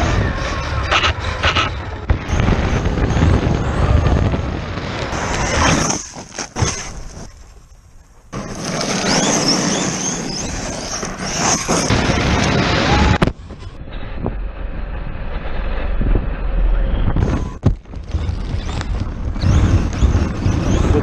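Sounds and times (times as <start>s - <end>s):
wind on microphone: 0.0s - 7.4s, 9.0s - 21.0s
tyres on rough ground: 0.0s - 13.8s, 17.2s - 21.0s.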